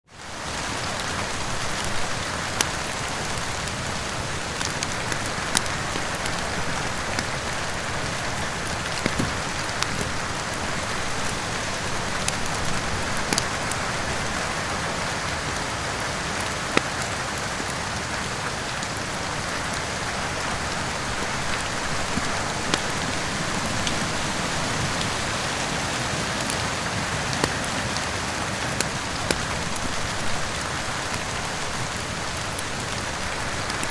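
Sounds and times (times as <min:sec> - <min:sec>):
heavy rain: 0:00.0 - 0:33.9
wood fire popping: 0:00.4 - 0:33.9.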